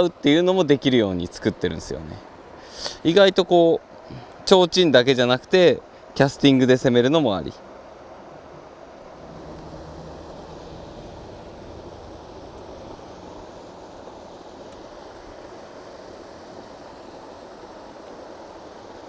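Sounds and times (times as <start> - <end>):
faint low engine hum: 0.0 - 19.0
water: 0.0 - 19.0
wind: 0.0 - 19.0.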